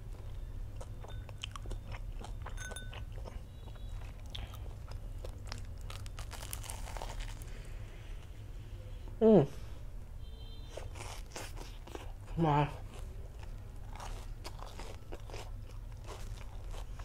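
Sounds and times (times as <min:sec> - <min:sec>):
crunching and chewing: 0:00.0 - 0:07.7, 0:10.7 - 0:17.0.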